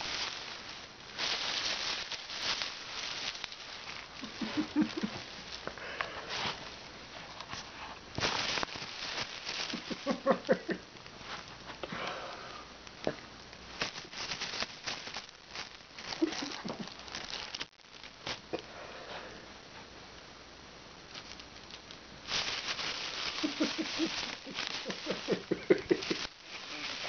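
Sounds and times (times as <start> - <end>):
plastic bag crinkling: 0.0 - 11.8, 12.9 - 18.6, 21.1 - 27.0.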